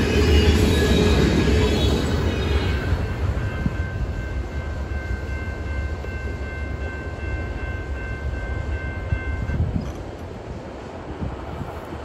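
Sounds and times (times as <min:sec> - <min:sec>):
crossing bell ringing: 0:00.0 - 0:09.8
freight train rumbling: 0:00.0 - 0:12.0.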